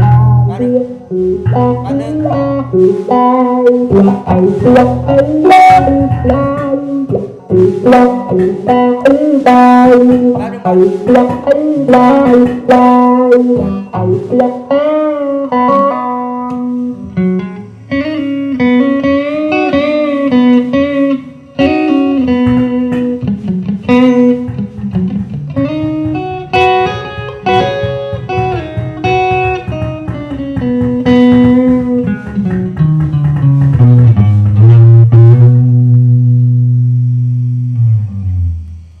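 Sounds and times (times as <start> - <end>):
guitar music: 0.0 - 39.0.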